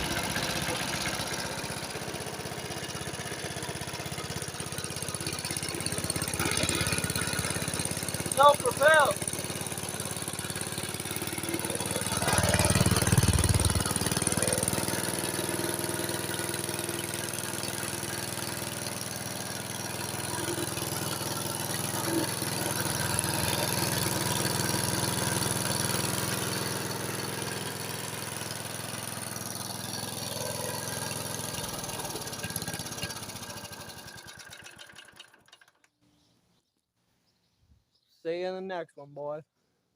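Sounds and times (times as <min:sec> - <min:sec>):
lawn mower engine running: 0:00.0 - 0:35.9.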